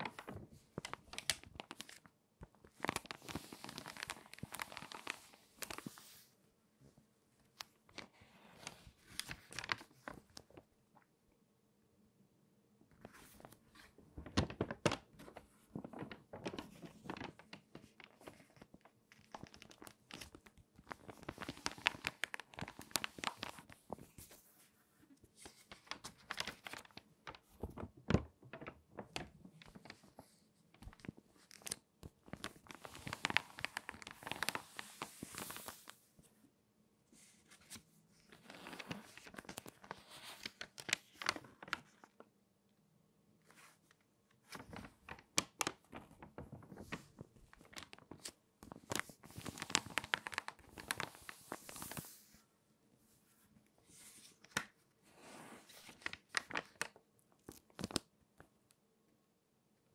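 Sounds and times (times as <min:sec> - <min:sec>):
crinkly magazine pages turning: 0:00.0 - 0:06.3, 0:07.4 - 0:11.1, 0:12.9 - 0:36.1, 0:37.2 - 0:42.3, 0:43.4 - 0:52.4, 0:53.8 - 0:58.5.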